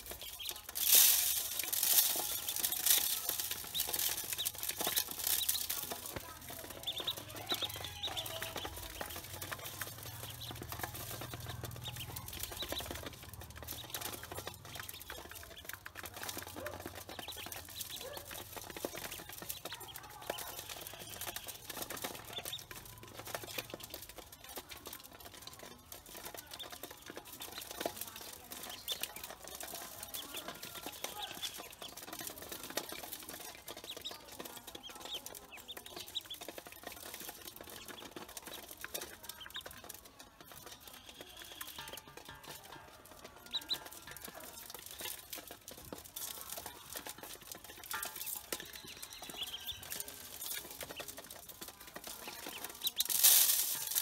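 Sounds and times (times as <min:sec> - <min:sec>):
ducklings peeping: 0:00.0 - 0:54.0
taps and scratches on metal basin: 0:00.0 - 0:54.0.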